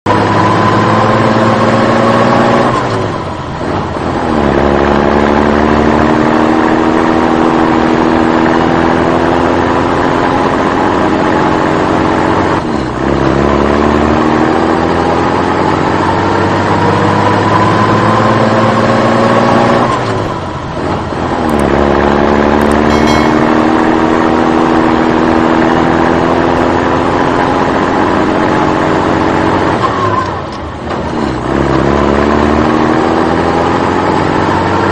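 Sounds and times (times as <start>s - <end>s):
vehicle engine accelerating: 0.1s - 34.9s.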